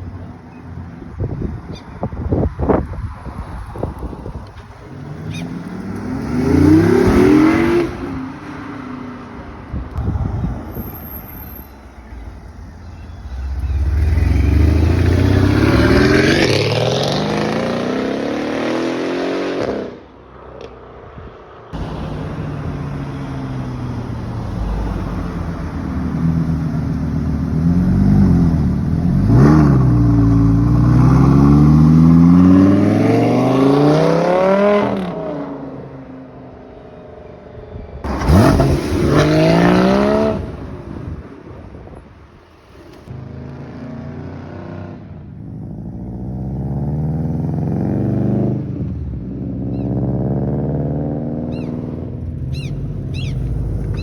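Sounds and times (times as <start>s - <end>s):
car engines revving and accelerating: 0.0s - 12.3s, 13.2s - 36.6s, 38.0s - 54.0s.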